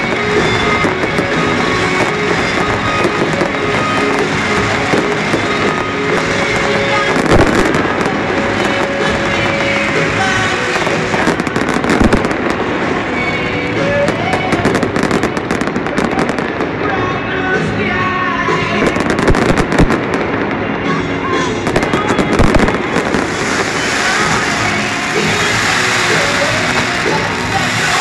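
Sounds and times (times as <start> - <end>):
fireworks bangs and crackles: 0.0 - 28.0
music: 0.0 - 28.0.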